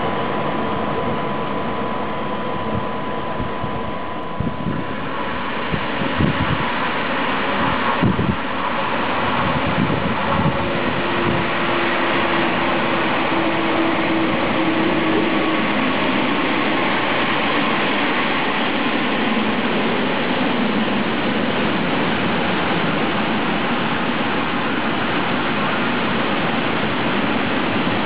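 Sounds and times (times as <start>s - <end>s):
electric locomotive hum: 0.0s - 28.0s.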